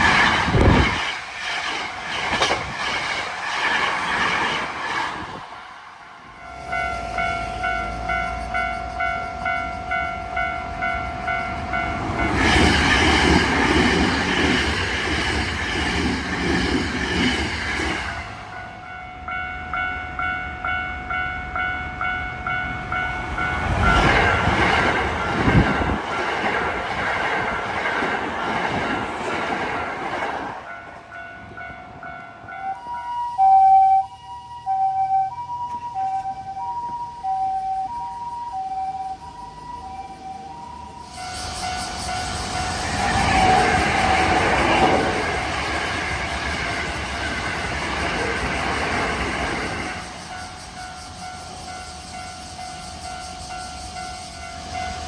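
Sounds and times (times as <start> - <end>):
electric trains passing: 0.0 - 55.0
level-crossing warning bell: 5.3 - 55.0.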